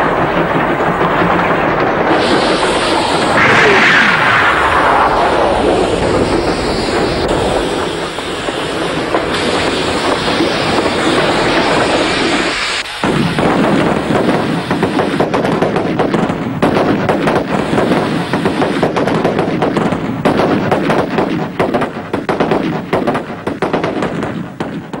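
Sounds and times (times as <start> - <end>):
rapid gunfire: 0.0 - 12.1, 13.0 - 25.0.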